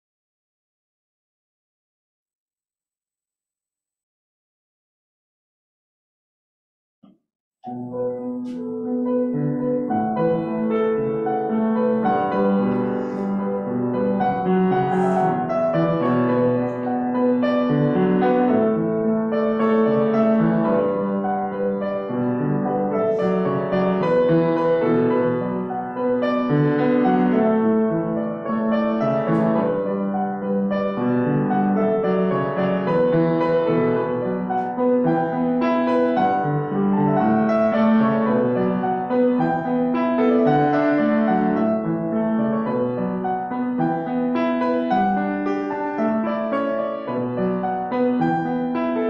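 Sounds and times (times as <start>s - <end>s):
solo piano chords and melody: 7.6s - 49.0s.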